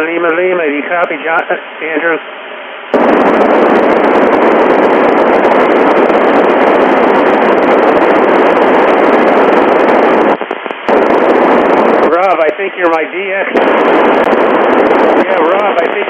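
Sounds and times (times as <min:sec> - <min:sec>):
loud radio static hiss: 0:00.0 - 0:16.0.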